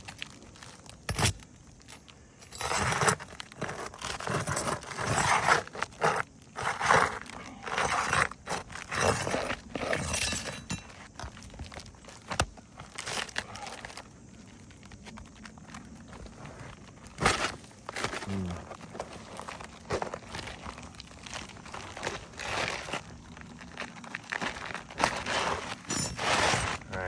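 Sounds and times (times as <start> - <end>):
roof shingle crunching and tearing: 0.0 - 27.0.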